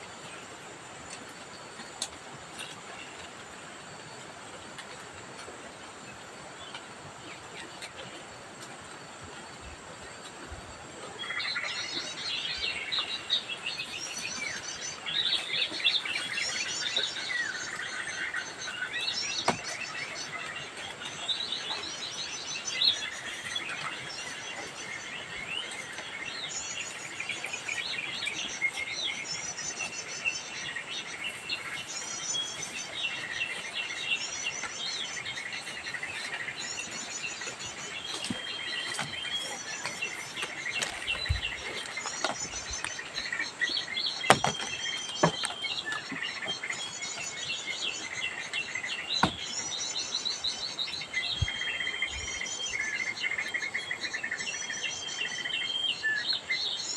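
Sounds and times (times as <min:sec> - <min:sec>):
birds chirping and calling: 0:11.1 - 0:56.9.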